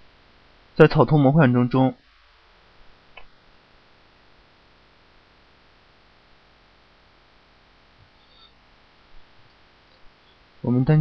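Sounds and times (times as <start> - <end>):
faint hiss and hum: 0.0 - 11.0.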